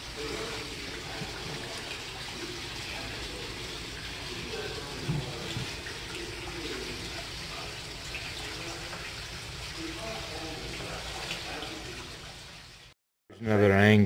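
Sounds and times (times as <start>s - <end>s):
faint voices: 0.0s - 12.2s
running water rushing: 0.0s - 13.0s.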